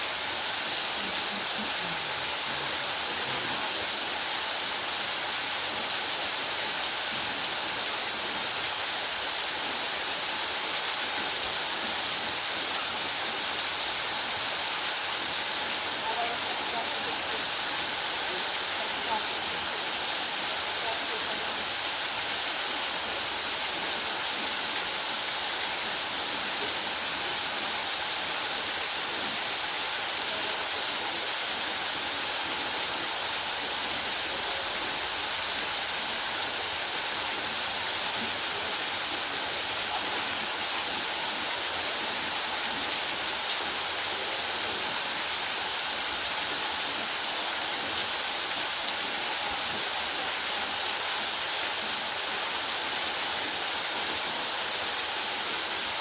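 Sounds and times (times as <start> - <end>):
waterfall pouring and splashing: 0.0 - 56.0.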